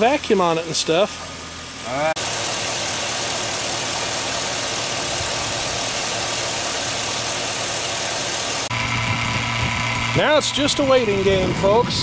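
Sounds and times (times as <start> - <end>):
vacuum pump humming: 1.6 - 12.0
engine belt whooshing: 2.1 - 12.0.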